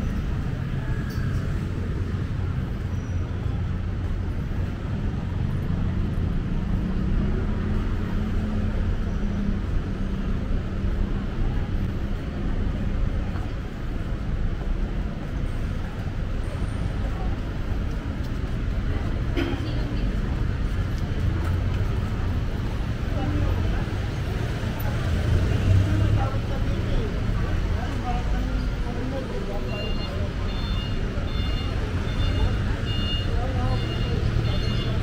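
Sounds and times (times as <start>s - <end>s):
faint voices: 0.0s - 35.0s
vehicle engines humming: 0.0s - 35.0s.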